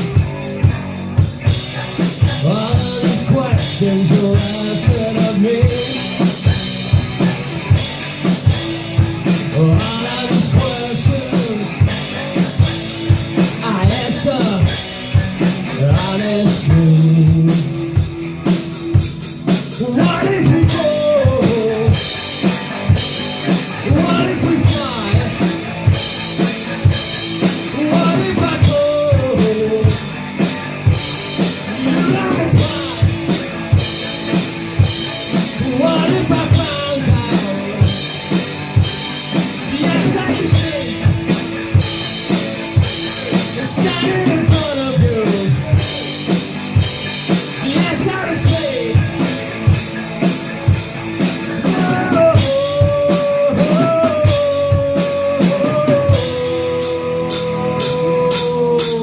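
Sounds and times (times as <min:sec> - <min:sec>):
bending lead melody: 0:00.0 - 0:59.0
drum kit beat: 0:00.0 - 0:59.0
live rock band playing: 0:00.0 - 0:59.0.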